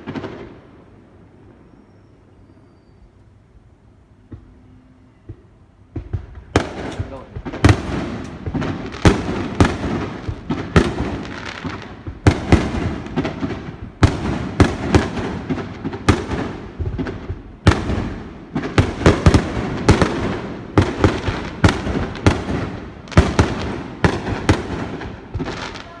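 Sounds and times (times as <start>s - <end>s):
fireworks booming: 0.0s - 1.8s, 4.2s - 26.0s.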